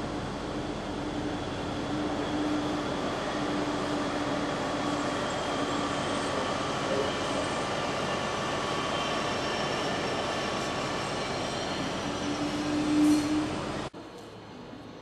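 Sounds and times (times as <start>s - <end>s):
train rail noise: 0.0s - 15.0s.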